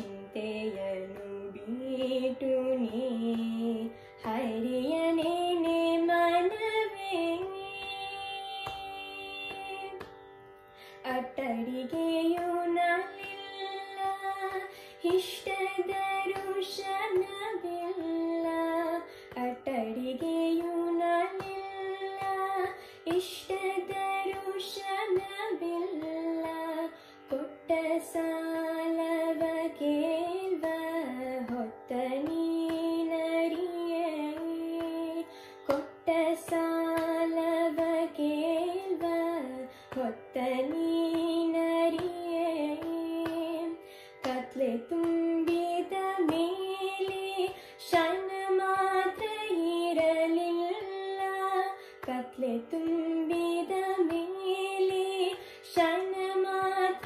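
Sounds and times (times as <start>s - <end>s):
girl singing: 0.0s - 10.1s, 11.0s - 57.0s.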